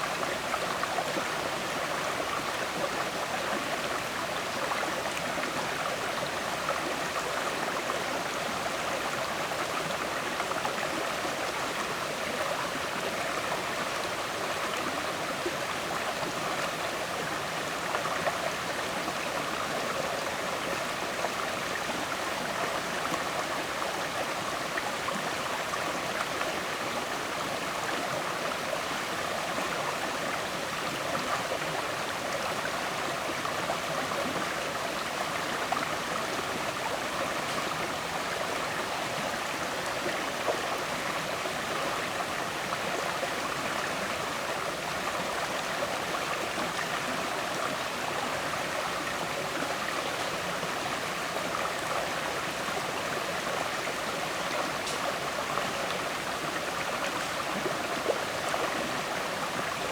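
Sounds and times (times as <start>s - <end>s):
river water flowing and gurgling: 0.0s - 59.9s.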